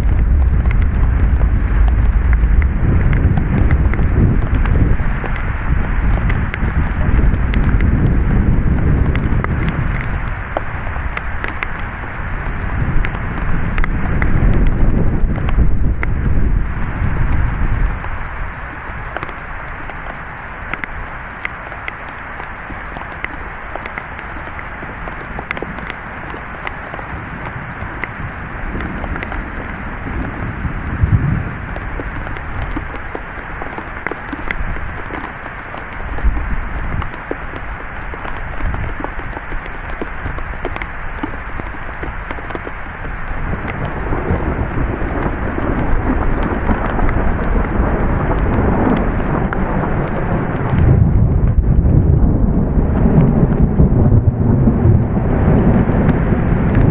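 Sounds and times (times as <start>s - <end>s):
heavy rain: 0.0s - 56.9s
low wind rumble: 0.0s - 56.9s
sharp taps of raindrops: 0.0s - 56.9s.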